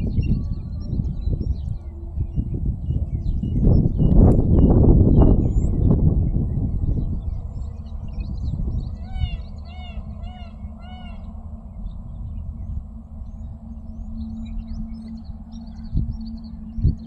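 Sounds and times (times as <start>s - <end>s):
low rumble: 0.0s - 17.0s
small birds chirping: 0.0s - 17.0s.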